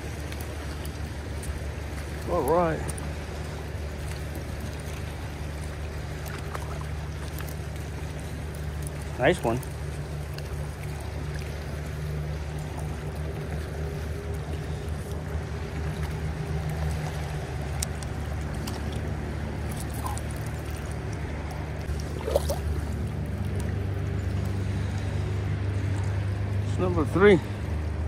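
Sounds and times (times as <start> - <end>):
creek water running over stones: 0.0 - 28.0.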